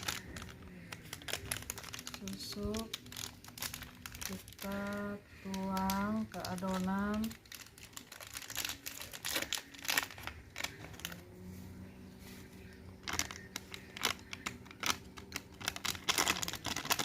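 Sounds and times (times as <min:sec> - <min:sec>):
plastic packet crinkling: 0:00.0 - 0:11.3, 0:12.9 - 0:17.0.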